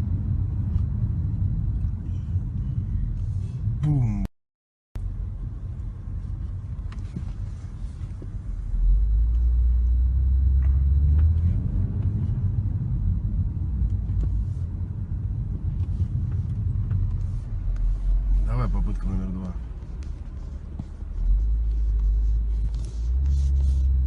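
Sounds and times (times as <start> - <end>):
car engine and road noise: 0.0 - 4.3, 5.0 - 24.0.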